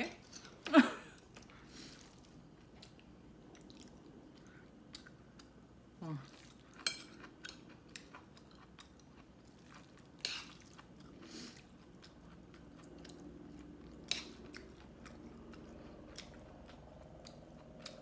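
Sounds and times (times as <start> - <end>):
person chewing food: 1.2 - 18.0.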